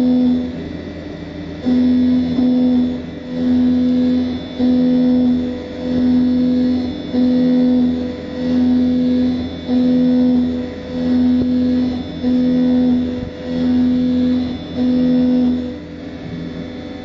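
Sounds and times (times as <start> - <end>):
low machine hum: 0.0 - 17.0
lathe cutting tone: 1.6 - 17.0.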